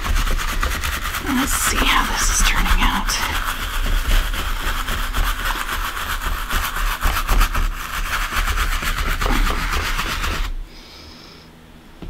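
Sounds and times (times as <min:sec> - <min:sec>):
brush scrubbing on cardboard: 0:00.0 - 0:10.6.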